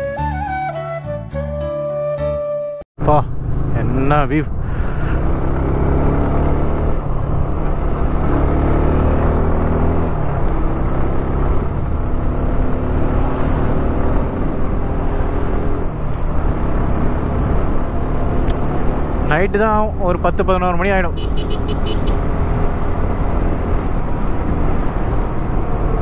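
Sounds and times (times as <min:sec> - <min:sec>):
motorcycle engine revving: 0:03.0 - 0:26.0.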